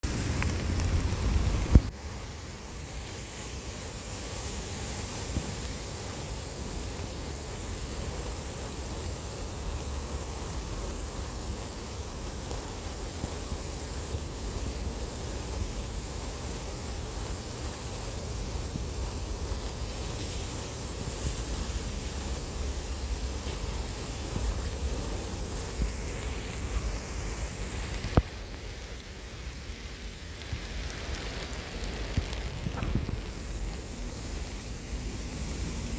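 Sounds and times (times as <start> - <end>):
steady rain hiss: 0.0 - 35.9.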